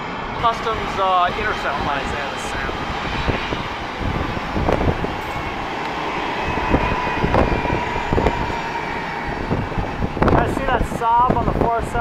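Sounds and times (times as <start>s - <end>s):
faint steady whine: 0.0s - 11.6s
aircraft engines rumbling: 0.0s - 12.0s.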